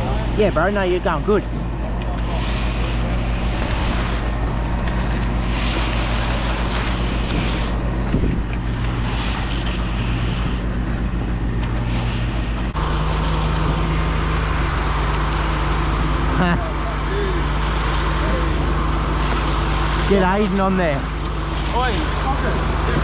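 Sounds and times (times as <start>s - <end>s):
heavy truck engine running: 0.0s - 23.0s.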